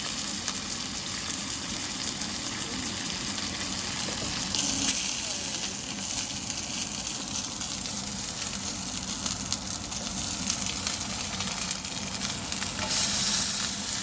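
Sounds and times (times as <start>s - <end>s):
crackling of frying oil: 0.0s - 14.0s
fish sizzling in a frying pan: 0.0s - 14.0s.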